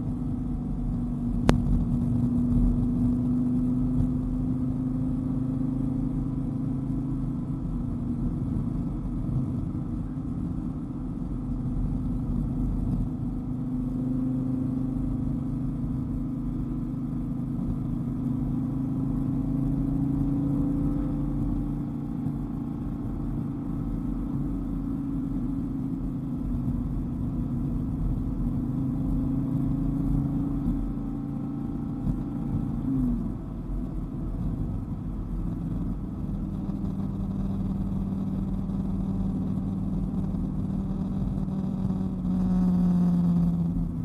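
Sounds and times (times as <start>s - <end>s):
tyre and road noise: 0.0s - 5.3s, 7.0s - 44.0s
car engine running: 0.0s - 44.0s.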